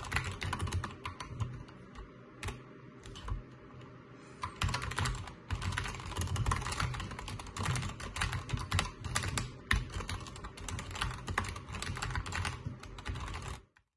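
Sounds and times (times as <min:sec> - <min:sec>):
mechanical keyboard typing: 0:00.0 - 0:03.4, 0:04.4 - 0:13.9.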